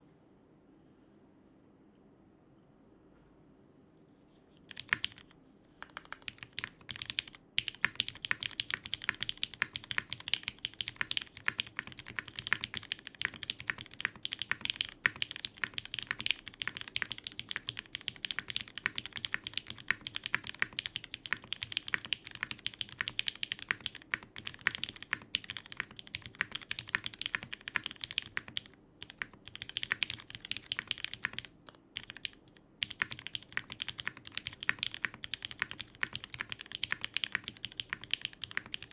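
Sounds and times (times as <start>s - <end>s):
mechanical keyboard typing: 4.6s - 38.9s.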